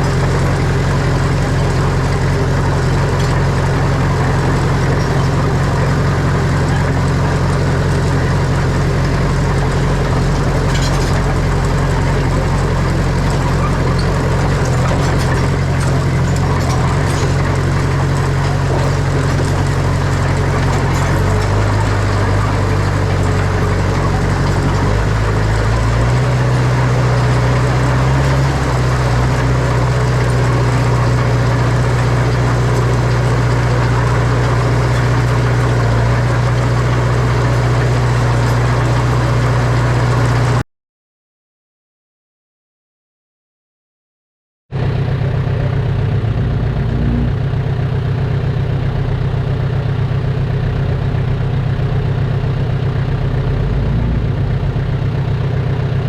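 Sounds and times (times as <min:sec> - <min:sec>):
heavy diesel engine running: 0:00.0 - 0:40.6, 0:44.8 - 0:56.0.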